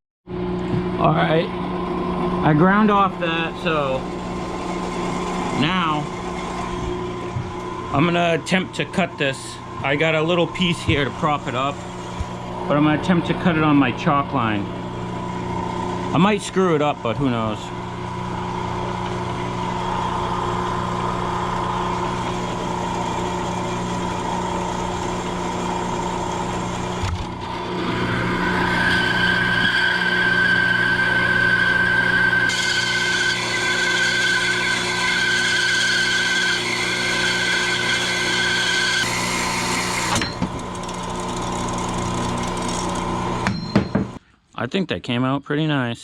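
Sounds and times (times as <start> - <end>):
machine humming: 0.3 - 44.2
cutting tool high whine: 0.9 - 44.2.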